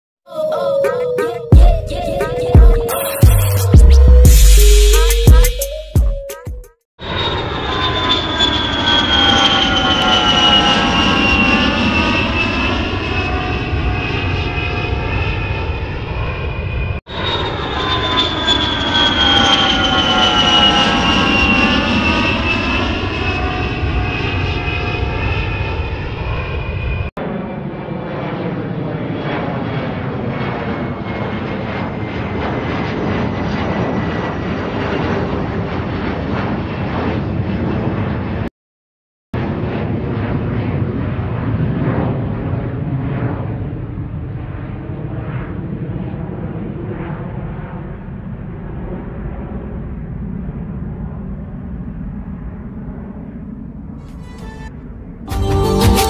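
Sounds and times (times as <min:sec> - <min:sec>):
jet airliner flying past: 0:07.0 - 0:38.5, 0:39.4 - 0:55.4.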